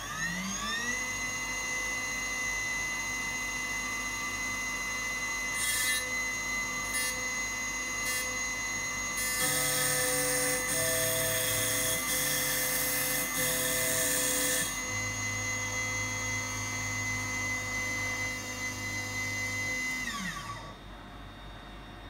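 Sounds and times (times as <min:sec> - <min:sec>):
milling spindle whine: 0:00.0 - 0:20.7.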